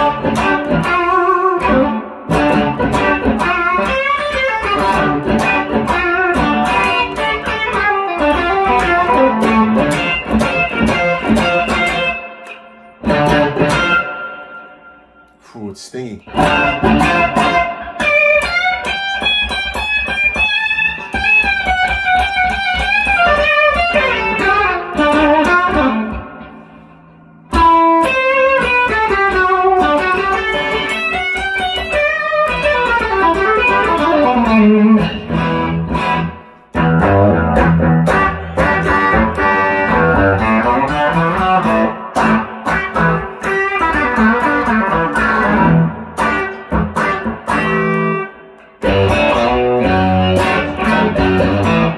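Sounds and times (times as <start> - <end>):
electric guitar playing: 0.0 - 51.9.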